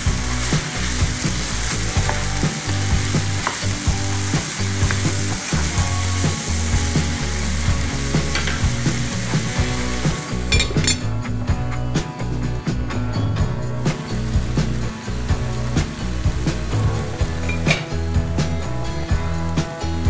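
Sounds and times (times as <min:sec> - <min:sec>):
meat and vegetables sizzling in a pan: 0:00.0 - 0:12.6, 0:13.4 - 0:20.0.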